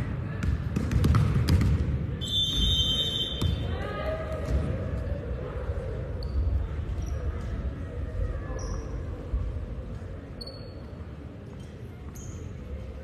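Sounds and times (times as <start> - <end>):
voices chattering in a gym: 0.0 - 13.0.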